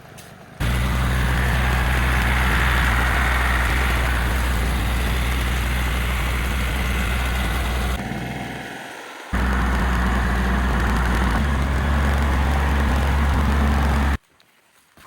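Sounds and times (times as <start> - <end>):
large engine idling: 0.4 - 14.2.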